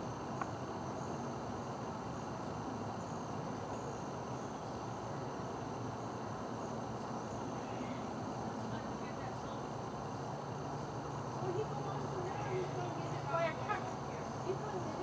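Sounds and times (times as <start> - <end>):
crickets chirring: 0.0 - 15.0
low background hiss: 0.0 - 15.0.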